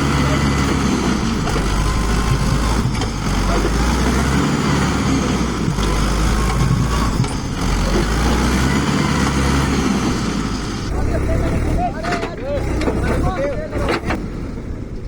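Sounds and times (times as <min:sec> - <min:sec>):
tractor diesel engine straining: 0:00.0 - 0:15.0.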